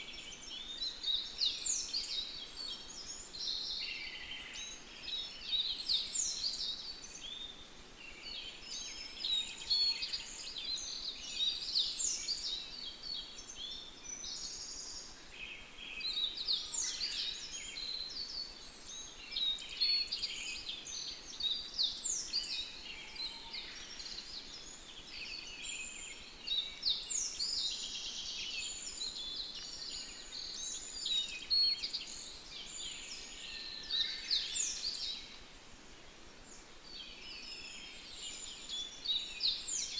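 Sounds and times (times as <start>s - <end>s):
birds chirping and singing: 0.0s - 35.4s, 36.1s - 39.9s.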